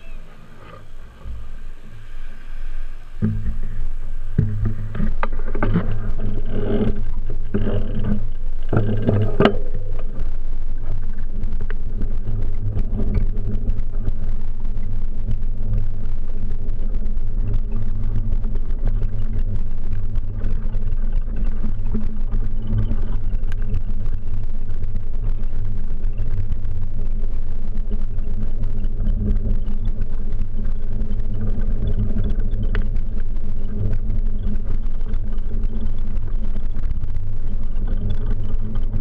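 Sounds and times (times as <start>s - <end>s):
bicycle rumbling over stone pavement: 0.0s - 39.0s.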